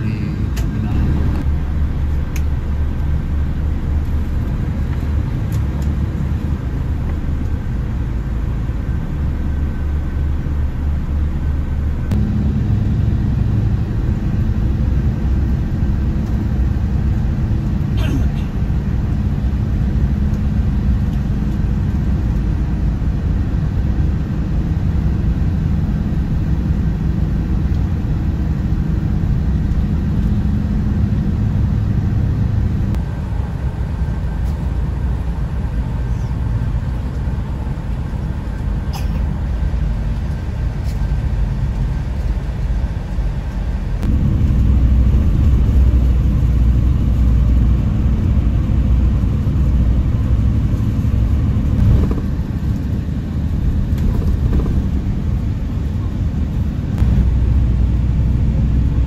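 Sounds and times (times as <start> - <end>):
bus engine and road noise: 0.0 - 59.0.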